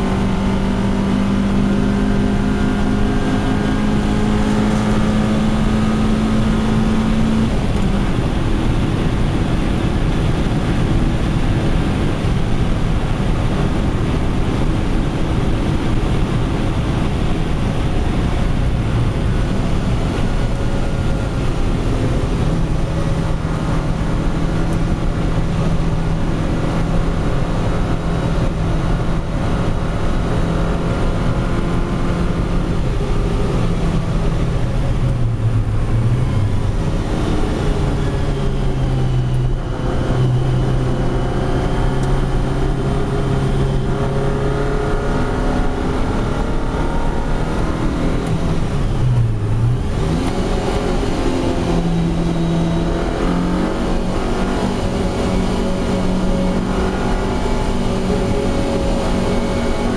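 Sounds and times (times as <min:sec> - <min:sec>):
car engine running hard: 0:00.0 - 0:59.9
road and tyre noise: 0:00.0 - 0:59.9.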